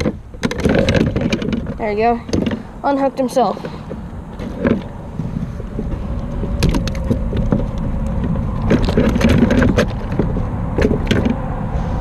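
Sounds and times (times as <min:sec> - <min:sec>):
knocks and scrapes on kayak: 0:00.0 - 0:02.8, 0:03.4 - 0:11.4
steady low rumble: 0:00.0 - 0:12.0.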